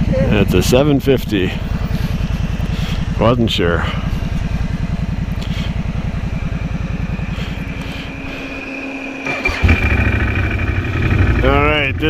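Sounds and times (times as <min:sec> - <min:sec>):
quad bike engine at low revs: 0:00.0 - 0:12.0
faint steady whine: 0:00.4 - 0:12.0.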